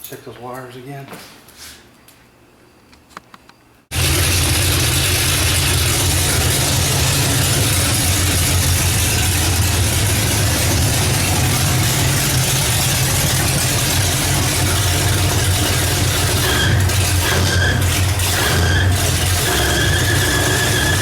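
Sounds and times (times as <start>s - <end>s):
car engine idling: 3.9s - 21.0s.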